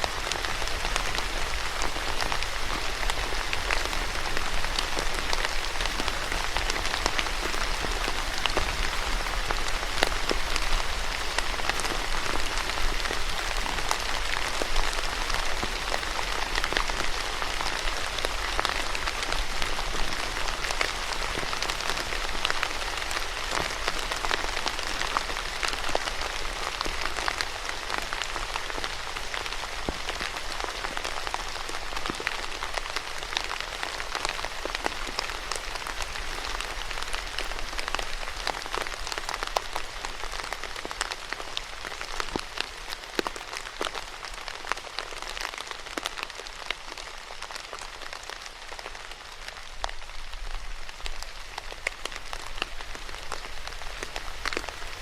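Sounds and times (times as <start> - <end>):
raindrops tapping: 0.0 - 55.0
steady rain hissing: 0.0 - 55.0.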